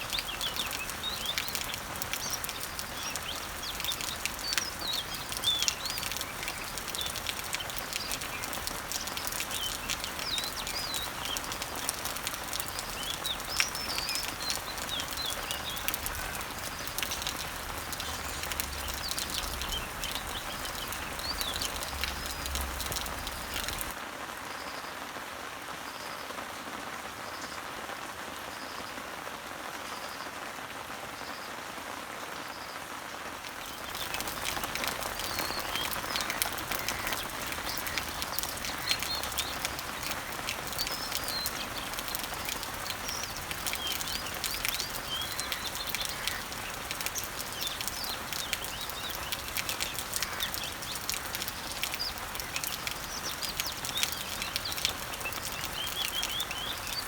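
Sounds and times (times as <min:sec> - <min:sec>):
birds chirping: 0:00.0 - 0:24.0, 0:33.5 - 0:57.0
rain pattering on leaves: 0:00.0 - 0:57.0.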